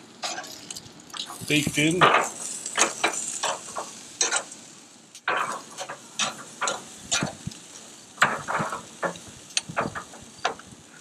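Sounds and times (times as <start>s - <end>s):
meat sizzling: 0.0s - 11.0s
metal tongs clacking on grill grates: 0.2s - 10.8s.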